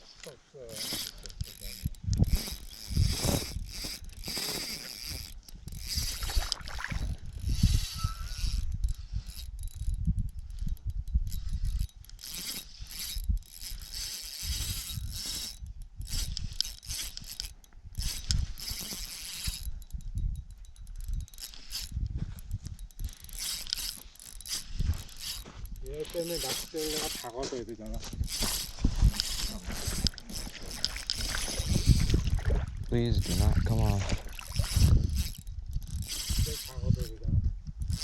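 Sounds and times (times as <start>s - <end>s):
fishing reel winding and clicking: 0.2s - 38.0s.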